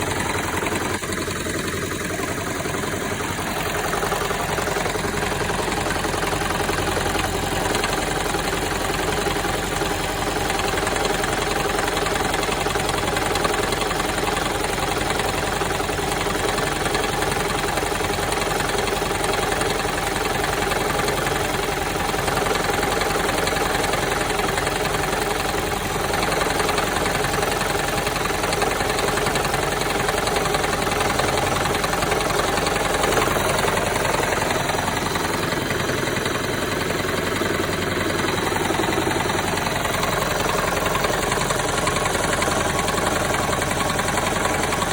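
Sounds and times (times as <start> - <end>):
car engine rattling and knocking: 0.0 - 44.9.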